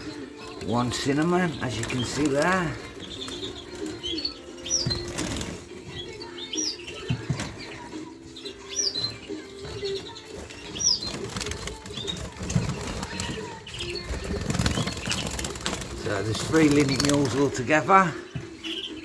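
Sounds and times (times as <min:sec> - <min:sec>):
finches chirping: 0:00.0 - 0:19.0
wings fluttering: 0:00.0 - 0:19.0.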